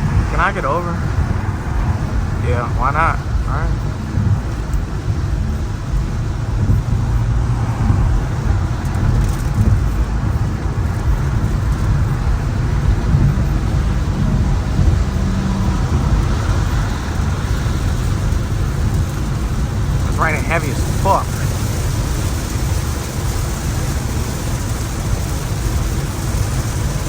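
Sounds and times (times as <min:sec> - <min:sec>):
faint engine drone: 0:00.0 - 0:27.0
rain noise: 0:00.0 - 0:27.0
tyres rumbling on wet road: 0:00.0 - 0:27.0.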